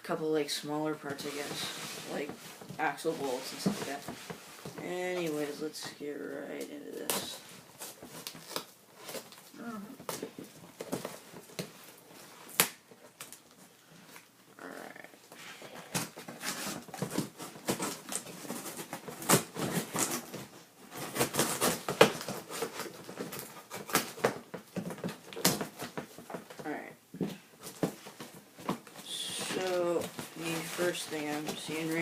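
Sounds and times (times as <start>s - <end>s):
cardboard box being unpacked: 1.0s - 32.0s.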